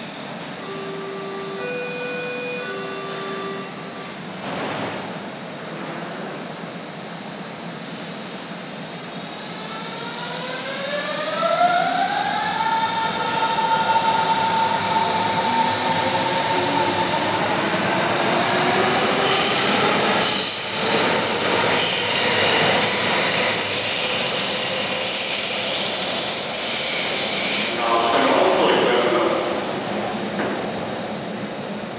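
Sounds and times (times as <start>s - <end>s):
electric train whine: 0.0s - 4.9s, 8.7s - 31.9s.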